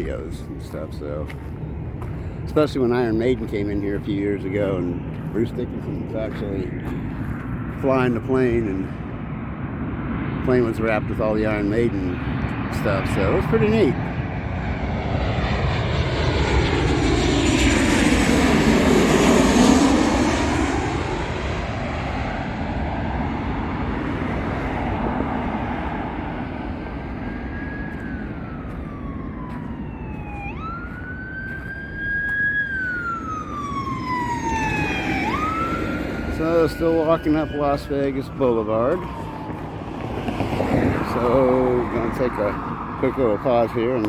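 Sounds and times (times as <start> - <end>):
emergency vehicle siren wailing: 0.0 - 7.3, 12.8 - 44.0
jet airliner passing overhead: 0.0 - 44.0.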